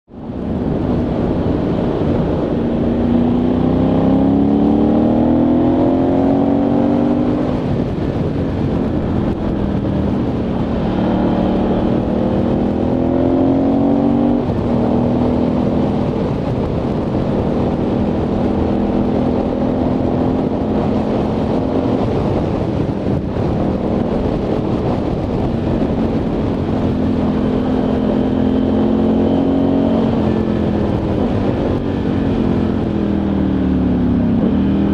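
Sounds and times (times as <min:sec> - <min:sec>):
motorcycle engine accelerating: 0:00.1 - 0:34.9
wind noise: 0:00.1 - 0:34.9.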